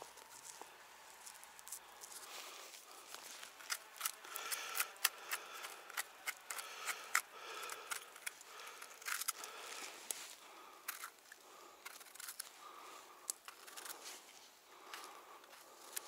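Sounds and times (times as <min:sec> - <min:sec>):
knife scraping mushroom stem: 0:01.2 - 0:12.6, 0:13.3 - 0:16.0.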